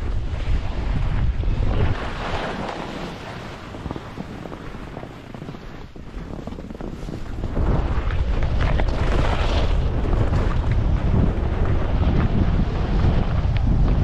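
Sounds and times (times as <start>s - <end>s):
skis scraping over snow: 0.0s - 14.0s
wind rushing over microphone: 0.0s - 14.0s.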